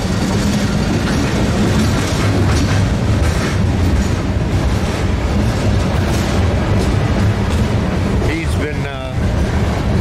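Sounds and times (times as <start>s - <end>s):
diesel locomotive drone: 0.0s - 10.0s
train wheel clicks on track: 0.0s - 10.0s.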